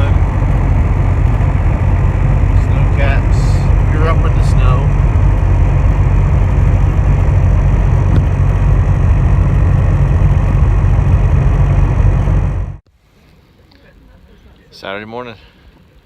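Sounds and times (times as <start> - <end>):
vehicle engine and road rumble: 0.0 - 12.9.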